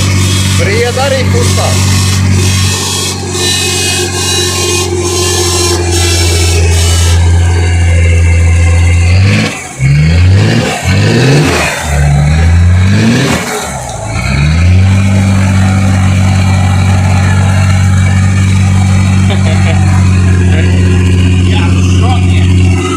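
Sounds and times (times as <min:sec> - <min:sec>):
engine revving: 0:00.0 - 0:22.9.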